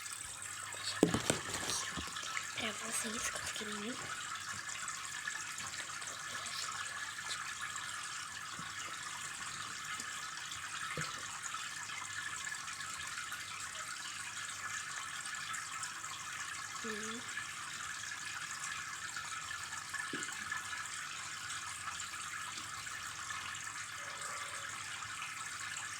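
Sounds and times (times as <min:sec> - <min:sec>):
aquarium water running: 0:00.0 - 0:25.9.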